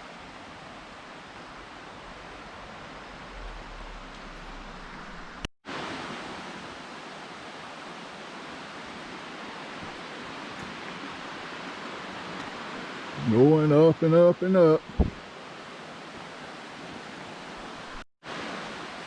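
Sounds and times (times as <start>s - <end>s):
distant waterfall rushing: 0.0s - 19.0s.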